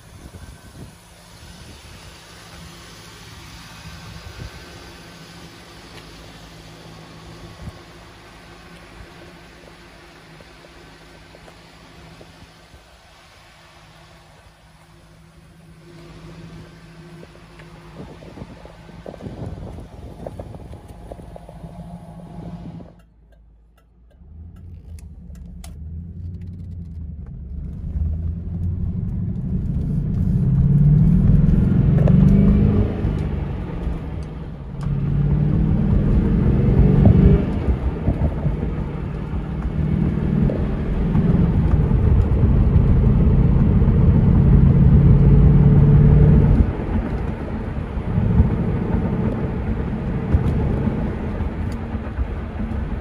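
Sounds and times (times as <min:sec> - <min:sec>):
car engine accelerating from cabin: 0:00.0 - 0:23.1, 0:24.0 - 0:53.0
car engine running: 0:00.0 - 0:53.0.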